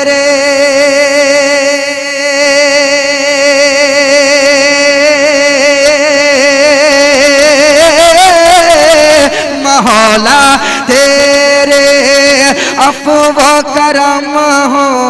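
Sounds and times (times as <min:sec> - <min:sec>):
man singing long note: 0:00.0 - 0:15.0.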